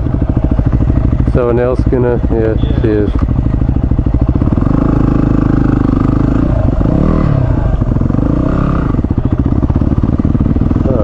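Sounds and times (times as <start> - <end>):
motorcycle engine running: 0.0 - 11.0
motorcycle rattling over bumps: 0.0 - 11.0.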